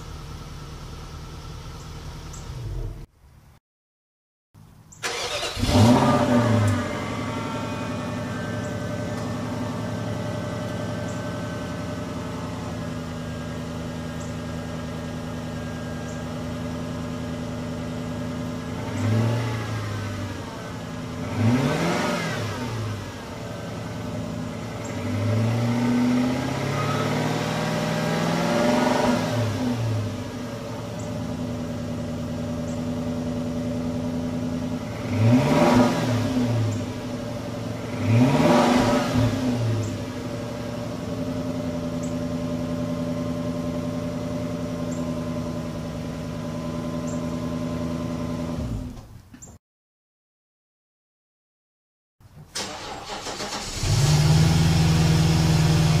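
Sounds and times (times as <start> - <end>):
car engine revving: 5.0 - 49.0, 52.6 - 56.0.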